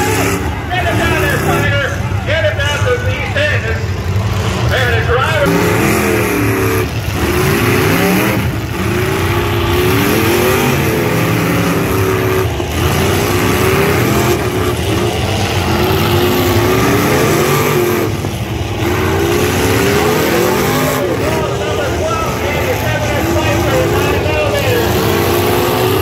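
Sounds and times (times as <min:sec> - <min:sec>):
truck engines revving hard: 0:00.0 - 0:26.0.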